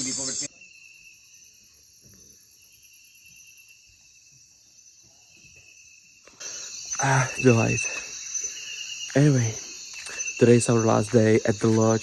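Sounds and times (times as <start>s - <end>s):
insects trilling: 0.0s - 12.0s
rapidly pulsing high insect call: 0.0s - 12.0s.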